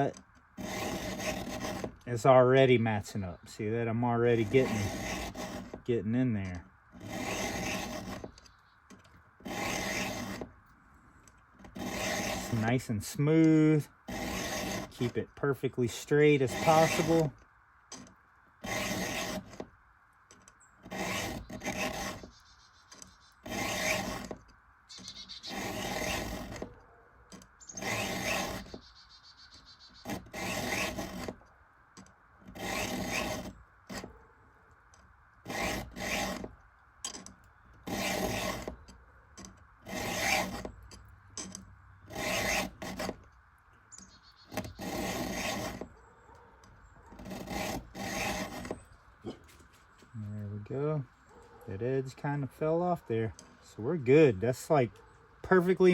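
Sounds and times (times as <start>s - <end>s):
round file on saw chain: 0.0s - 10.6s, 11.6s - 19.7s, 20.8s - 31.4s, 32.4s - 34.2s, 35.4s - 43.3s, 44.0s - 49.6s, 51.4s - 55.9s.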